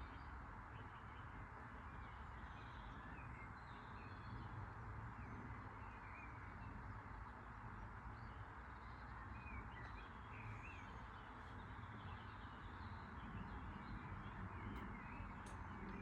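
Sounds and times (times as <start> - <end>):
small birds chirping: 0.0 - 16.0
faint low rumble: 2.0 - 16.0.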